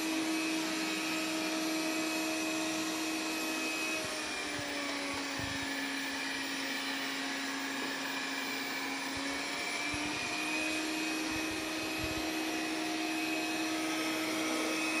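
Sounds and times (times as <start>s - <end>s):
robot vacuum cleaner running: 0.0s - 15.0s.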